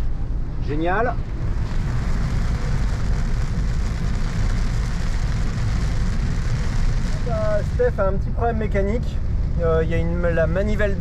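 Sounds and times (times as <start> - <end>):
car driving on wet road: 0.0 - 11.0
rain hitting windscreen: 0.9 - 11.0.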